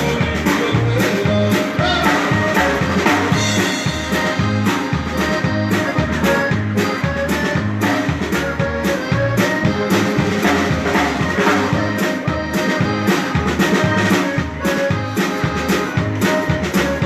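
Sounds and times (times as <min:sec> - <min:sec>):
drum kit beat: 0:00.0 - 0:17.0
sustained melody instrument notes: 0:00.0 - 0:17.0.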